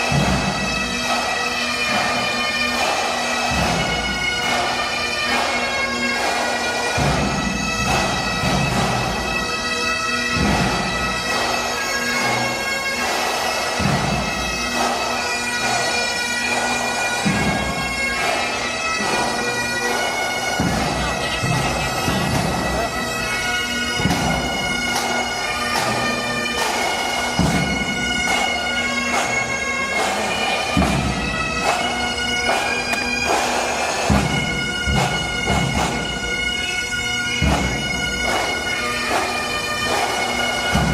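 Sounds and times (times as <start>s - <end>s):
bagpipes playing: 0.0s - 40.9s.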